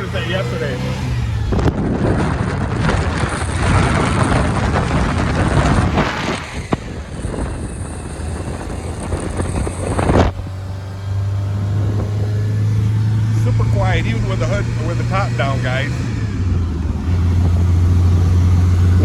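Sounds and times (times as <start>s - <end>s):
car engine low hum: 0.0s - 19.0s
road noise: 0.0s - 19.0s
wind rushing over microphone: 0.0s - 19.0s.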